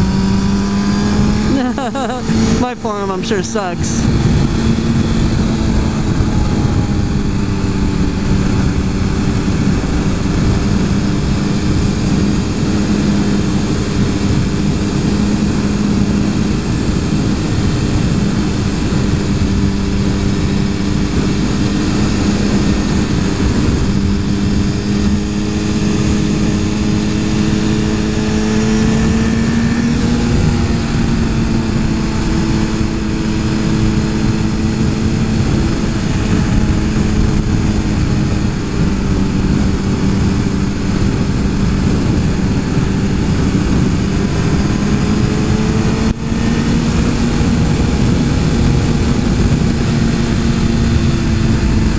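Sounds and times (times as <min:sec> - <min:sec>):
motorcycle engine cruising: 0:00.0 - 0:03.0, 0:03.8 - 0:51.9
wind rush: 0:00.0 - 0:51.9.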